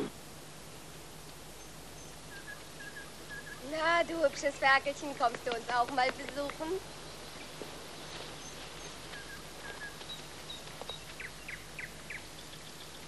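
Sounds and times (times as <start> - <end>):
steady hiss: 0.0 - 13.0
small birds chirping: 0.7 - 13.0.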